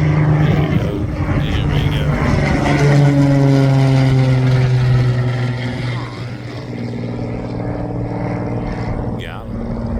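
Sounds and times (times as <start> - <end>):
airplane propeller drone overhead: 0.0 - 9.9.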